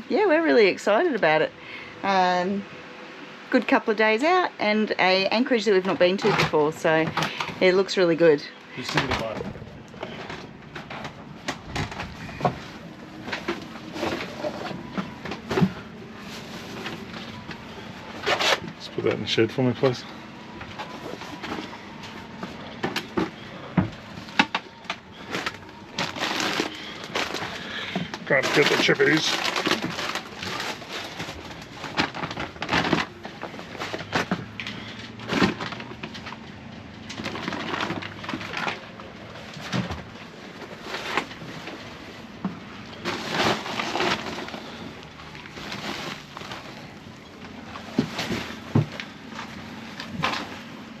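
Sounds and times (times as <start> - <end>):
crinkling: 5.0 - 51.0.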